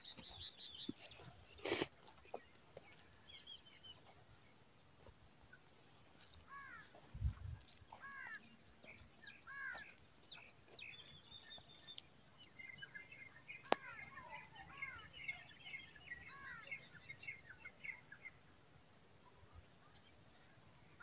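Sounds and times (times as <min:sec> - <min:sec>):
small birds twittering: 0:00.0 - 0:18.5.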